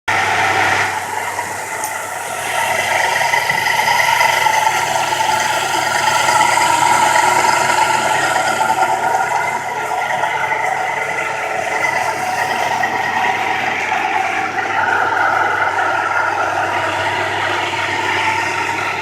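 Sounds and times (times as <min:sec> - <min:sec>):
drilling machine motor whirring: 0:00.1 - 0:19.0.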